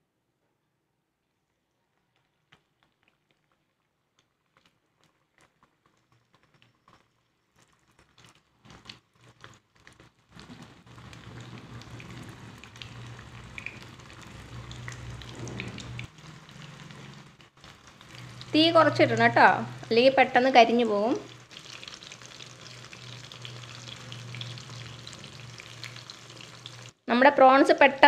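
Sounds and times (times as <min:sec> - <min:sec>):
prawns deep-frying in oil: 0:02.0 - 0:28.0.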